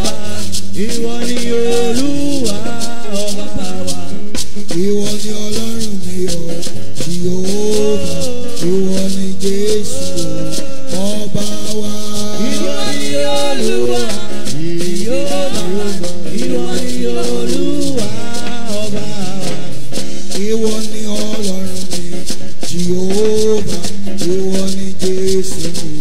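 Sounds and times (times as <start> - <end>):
man singing into a microphone: 0.0 - 26.0
shaker rhythm: 0.0 - 26.0.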